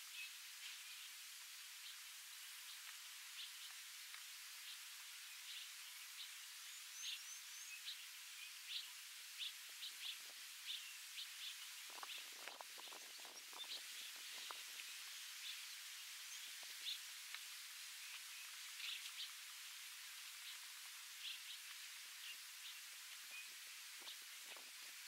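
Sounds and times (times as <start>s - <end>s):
steady hiss: 0.0s - 25.0s
low crackling rustle: 0.4s - 25.0s.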